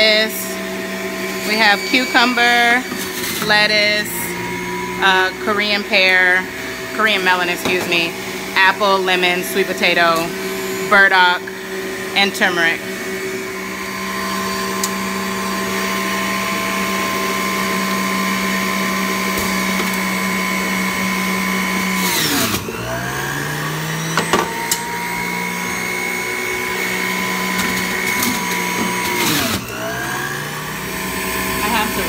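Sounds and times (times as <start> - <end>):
juicer motor whining: 0.0 - 32.0.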